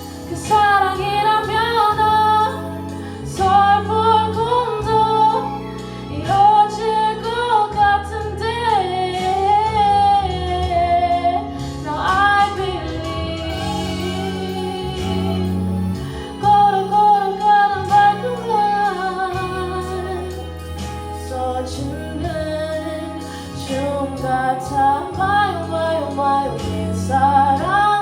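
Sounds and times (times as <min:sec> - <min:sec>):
instrumental accompaniment: 0:00.0 - 0:28.0
woman singing a ballad: 0:00.0 - 0:28.0.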